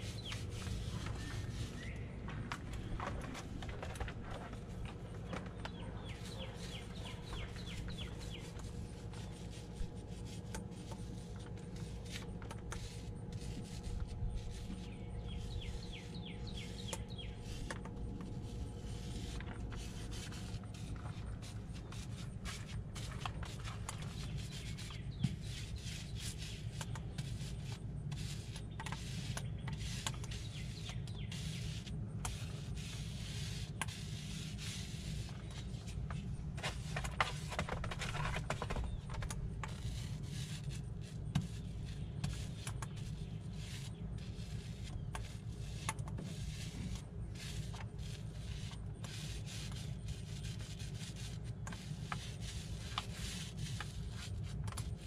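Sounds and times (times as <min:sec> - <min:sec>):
foam roller scratchy strokes: 0:00.0 - 0:02.0, 0:02.8 - 0:55.0
steady low rumble: 0:00.0 - 0:55.0.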